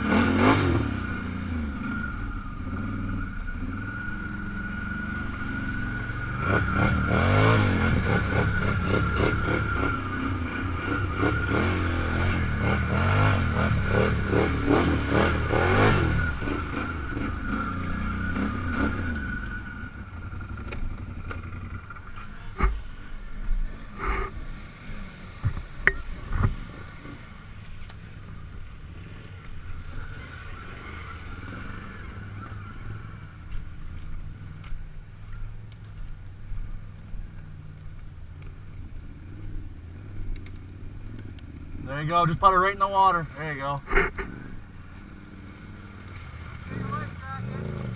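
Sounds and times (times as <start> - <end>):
off-road vehicle engine revving: 0.0 - 34.8, 38.4 - 47.9.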